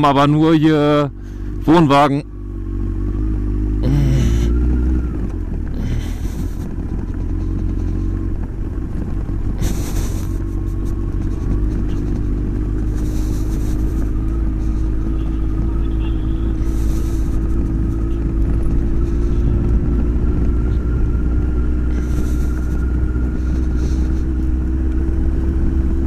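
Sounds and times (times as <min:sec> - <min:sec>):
motorcycle engine running: 0:00.0 - 0:26.0
road noise: 0:00.0 - 0:26.0
wind rumble: 0:03.0 - 0:26.0.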